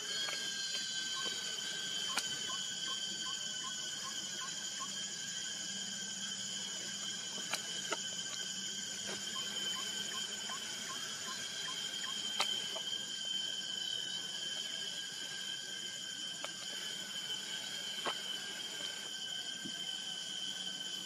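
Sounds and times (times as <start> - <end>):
insects shrill chorus: 0.0 - 21.0.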